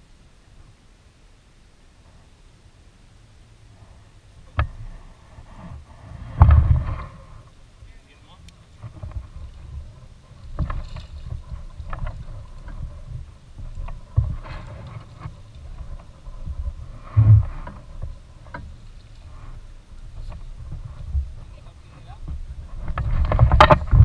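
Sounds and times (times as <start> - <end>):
low microphone rumble: 0.0 - 24.0.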